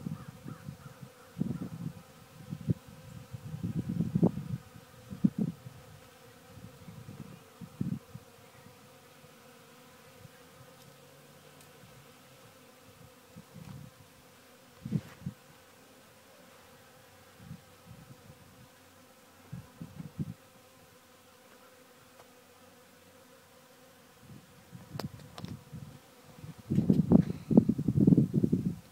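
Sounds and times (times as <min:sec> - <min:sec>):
honey bees buzzing: 0:00.0 - 0:28.9.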